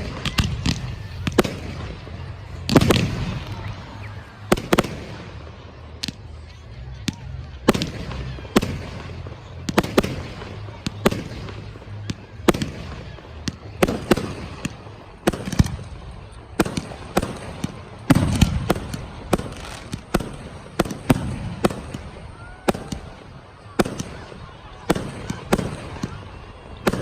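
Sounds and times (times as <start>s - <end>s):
fireworks bursting with bangs: 0.0s - 27.0s.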